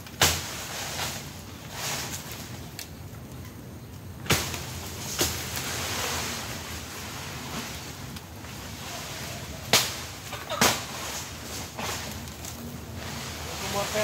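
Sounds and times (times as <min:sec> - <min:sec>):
steady wind: 0:00.0 - 0:14.0.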